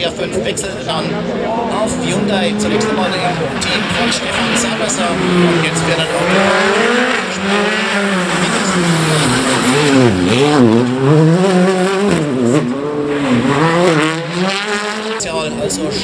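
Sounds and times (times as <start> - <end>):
rally car engine revving hard: 0.0 - 16.0.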